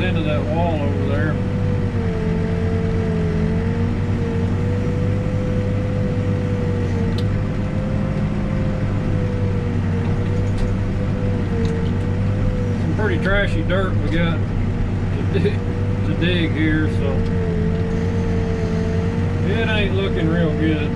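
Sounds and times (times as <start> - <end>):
diesel engine running under load: 0.0 - 20.9.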